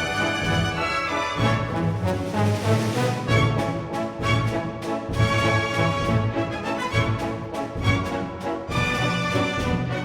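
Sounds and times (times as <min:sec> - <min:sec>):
orchestral strings and brass chords: 0:00.0 - 0:10.0.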